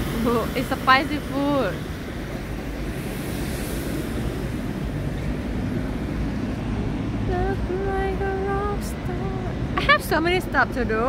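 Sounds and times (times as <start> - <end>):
low rumble of traffic: 0.0 - 11.0
wind buffeting microphone: 0.0 - 11.0.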